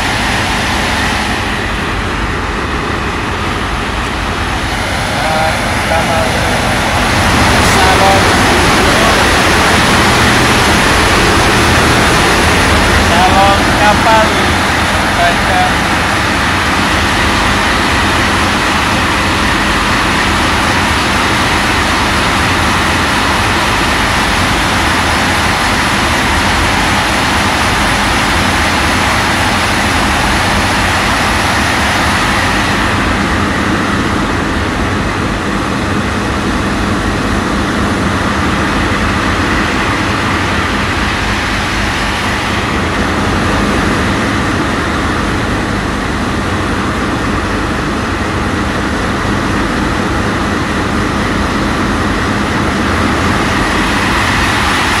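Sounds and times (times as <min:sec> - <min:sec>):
ship engines droning: 0:00.0 - 0:55.0
water wash: 0:00.0 - 0:55.0.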